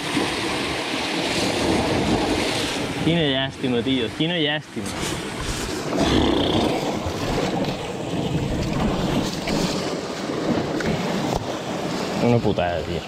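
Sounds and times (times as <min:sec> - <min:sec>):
wind buffeting microphone: 0:00.0 - 0:04.0, 0:04.7 - 0:13.0
sea washing against rocks: 0:00.0 - 0:13.0.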